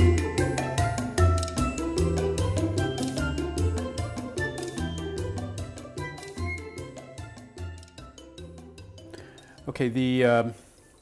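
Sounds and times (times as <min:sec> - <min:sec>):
upbeat latin-style music: 0:00.0 - 0:11.0.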